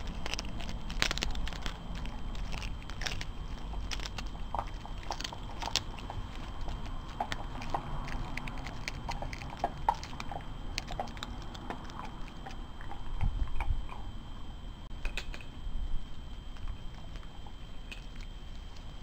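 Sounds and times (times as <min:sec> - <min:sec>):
dog chewing bones: 0:00.0 - 0:14.2, 0:16.2 - 0:19.0.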